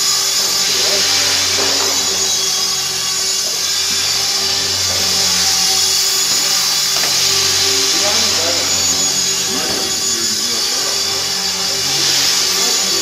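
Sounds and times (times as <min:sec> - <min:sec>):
rc helicopter high-pitched whine: 0:00.0 - 0:13.0.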